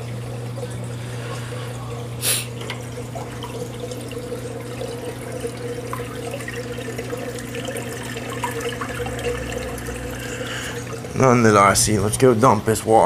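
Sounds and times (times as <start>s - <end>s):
low electrical hum: 0.0s - 13.0s
water trickling: 0.0s - 13.0s.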